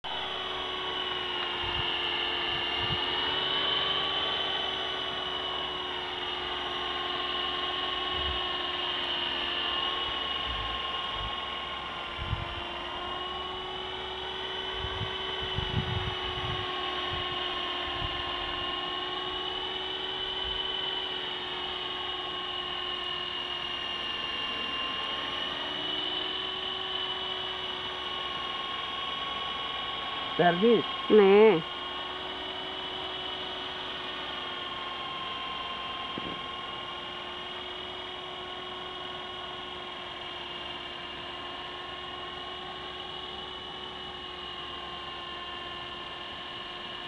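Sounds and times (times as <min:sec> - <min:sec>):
rc helicopter motor whine: 0:00.0 - 0:47.0.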